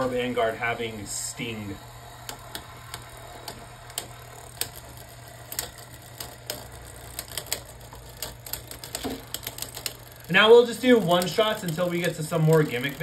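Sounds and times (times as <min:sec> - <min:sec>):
spinning tops clashing clicks: 0:01.4 - 0:13.0.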